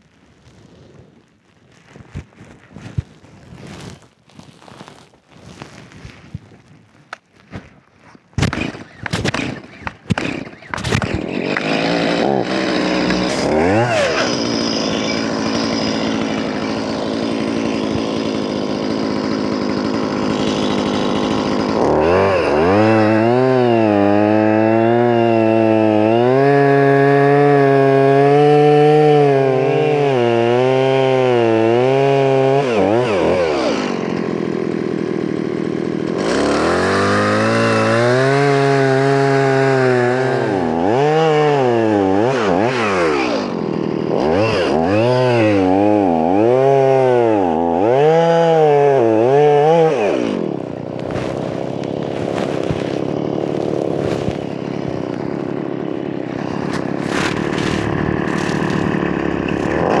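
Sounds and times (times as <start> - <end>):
chainsaw engine revving: 8.4 - 60.0.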